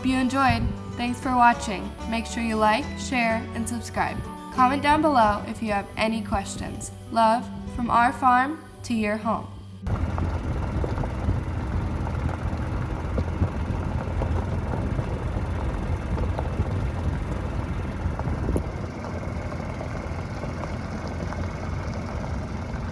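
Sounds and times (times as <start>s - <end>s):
small engine rumbling: 0.0s - 22.9s.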